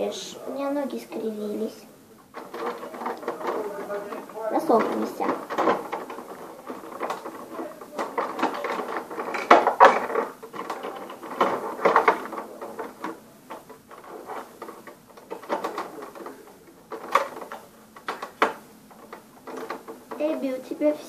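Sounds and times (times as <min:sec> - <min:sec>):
plastic toys clicking and tapping: 0:00.9 - 0:21.0.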